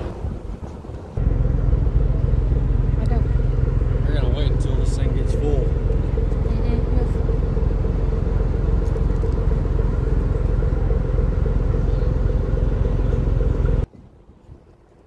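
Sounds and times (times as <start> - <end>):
ship engines rumbling: 0.0 - 14.9.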